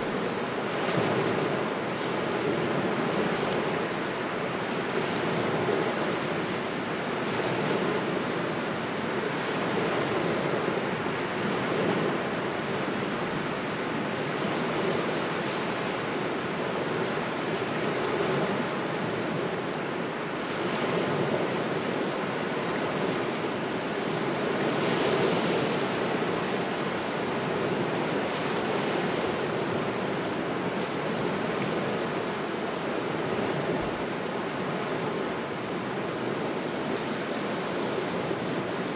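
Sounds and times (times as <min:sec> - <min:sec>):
steady wind: 0:00.0 - 0:38.9
waves washing onto shore: 0:00.0 - 0:38.9.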